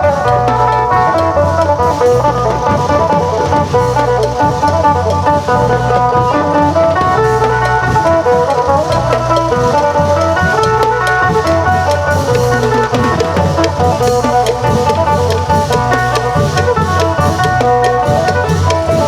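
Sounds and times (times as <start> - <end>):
long drums and percussion beat: 0.0 - 19.0.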